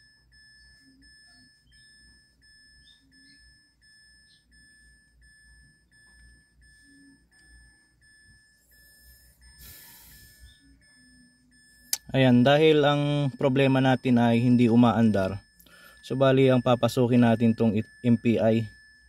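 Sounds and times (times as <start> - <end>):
electronic warning beep: 0.0 - 19.0.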